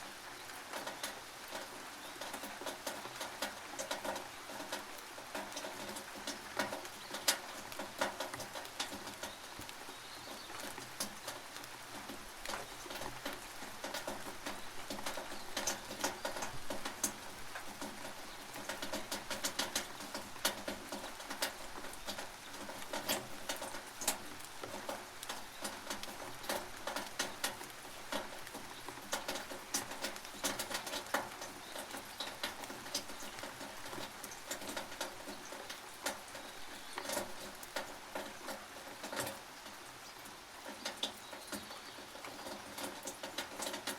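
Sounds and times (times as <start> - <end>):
rain on a tin roof: 0.0 - 43.9.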